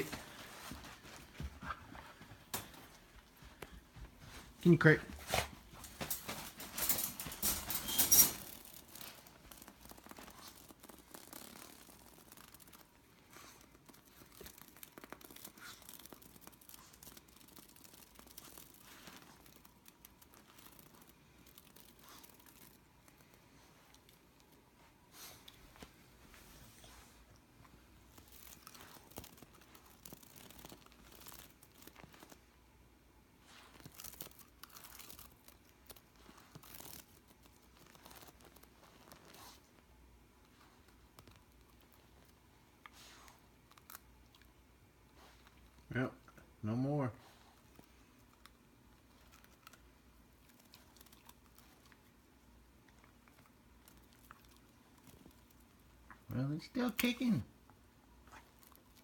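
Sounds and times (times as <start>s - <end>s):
faint rustling and crunching: 0.0s - 59.0s.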